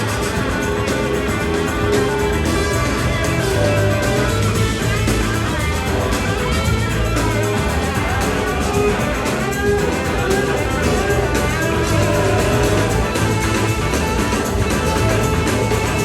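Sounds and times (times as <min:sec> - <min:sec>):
bass guitar: 0:00.0 - 0:16.0
drum kit: 0:00.0 - 0:16.0
electric guitars: 0:00.0 - 0:16.0.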